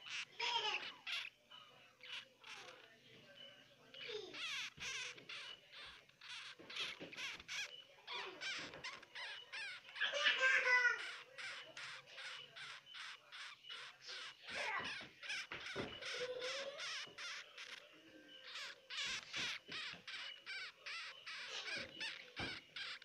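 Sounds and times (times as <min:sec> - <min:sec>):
hamster squeaking: 0:00.0 - 0:23.0.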